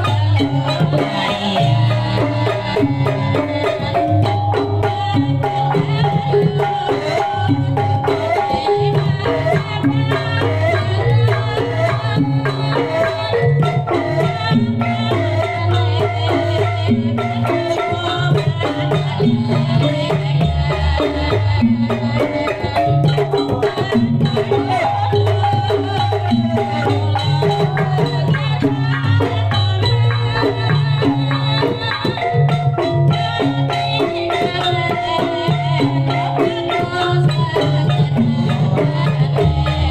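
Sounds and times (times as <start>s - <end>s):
gamelan metallophones: 0.0s - 39.9s
hand drums: 0.0s - 39.9s.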